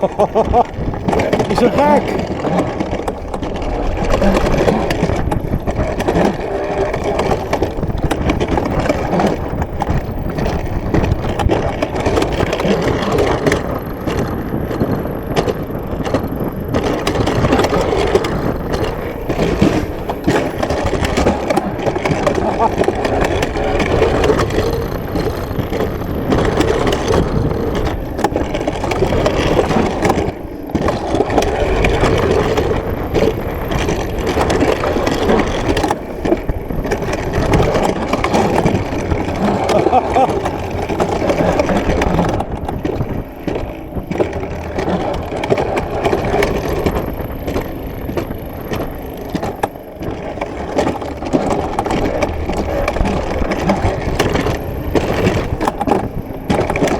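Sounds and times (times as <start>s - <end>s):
sled rolling on metal rail: 0.0s - 56.9s.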